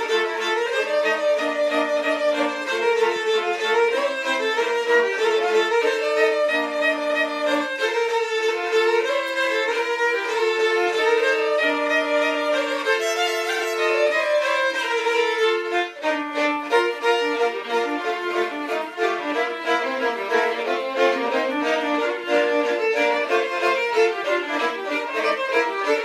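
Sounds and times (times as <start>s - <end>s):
two violins playing folk music: 0.0s - 26.0s.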